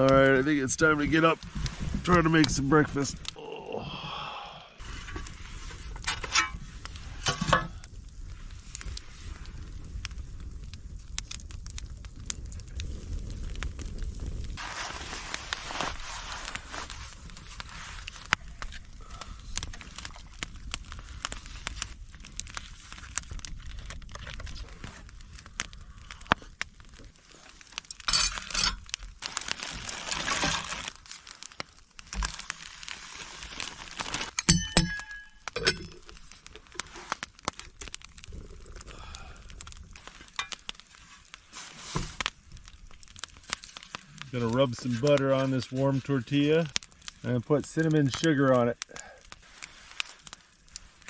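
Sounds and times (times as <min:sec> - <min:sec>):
rustling and crinkling: 0:00.0 - 0:03.4, 0:04.8 - 0:51.0
wood fire crackling and popping: 0:00.0 - 0:51.0.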